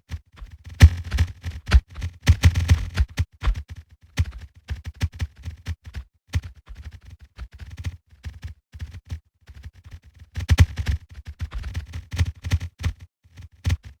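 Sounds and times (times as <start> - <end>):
rapid irregular clicking: 0.1 - 14.0.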